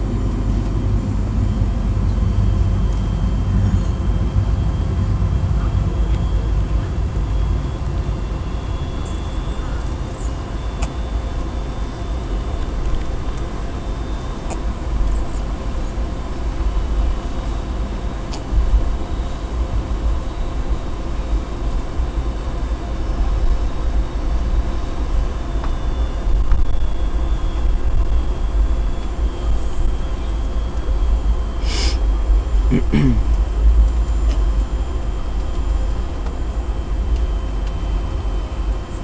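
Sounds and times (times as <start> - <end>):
aircraft cabin rumble: 0.0 - 39.0
faint jet engine whine: 0.0 - 39.0.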